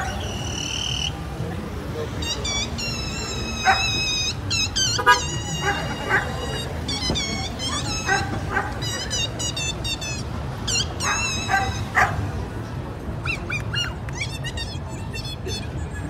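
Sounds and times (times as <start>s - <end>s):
high-pitched squeaky noisemaker: 0.0s - 1.2s, 2.0s - 12.1s, 13.2s - 16.0s
low street hum: 0.0s - 16.0s.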